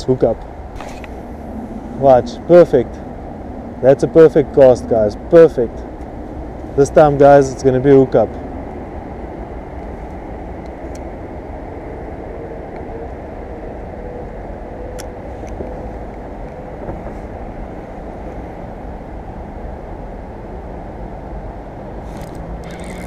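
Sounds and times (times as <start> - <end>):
low rumble of road traffic: 0.0 - 23.0.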